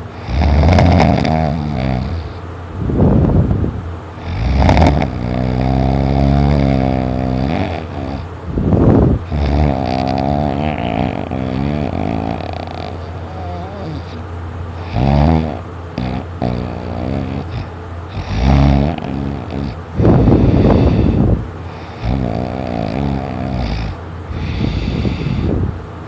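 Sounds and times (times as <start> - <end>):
loud snoring: 0.0 - 2.4, 4.2 - 8.3, 9.2 - 14.2, 14.8 - 25.7.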